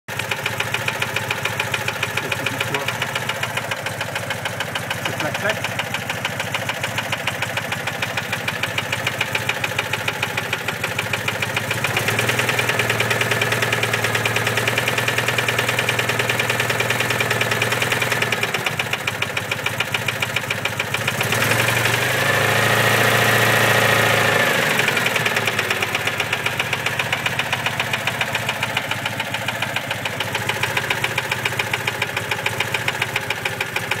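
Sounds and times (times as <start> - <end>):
engine knocking tick: 0.1 - 34.0
engine running and revving: 0.4 - 3.6, 8.4 - 34.0.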